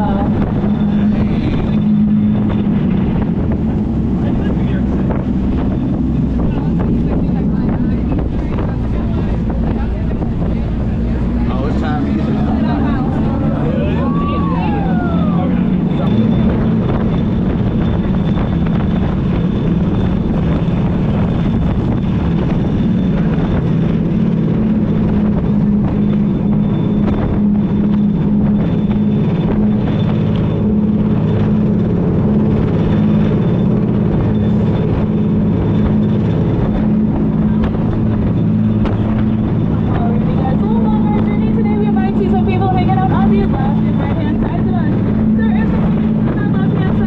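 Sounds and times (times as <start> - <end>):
boat engine droning: 0.0 - 47.0.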